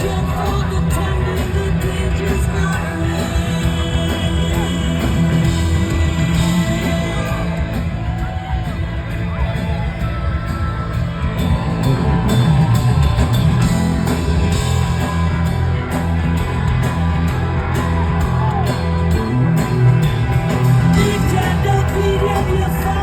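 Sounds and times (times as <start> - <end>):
heavy bass line: 0.0 - 23.0
live rock band playing: 0.0 - 23.0.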